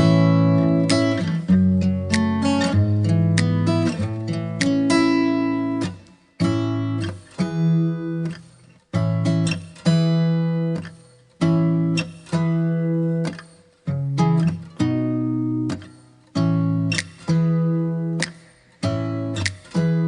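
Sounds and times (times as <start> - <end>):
acoustic guitar plucked chords: 0.0 - 20.0.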